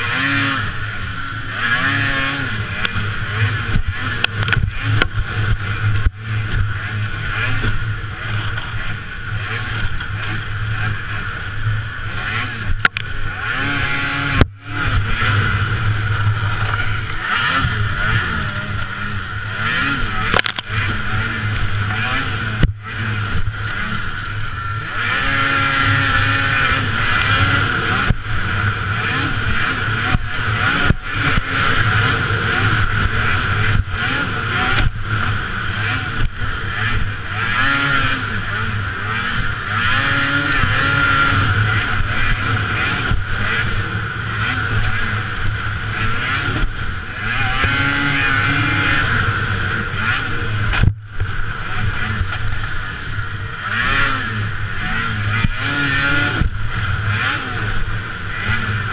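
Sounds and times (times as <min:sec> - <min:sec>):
snowmobile engine revving: 0:00.0 - 0:58.9.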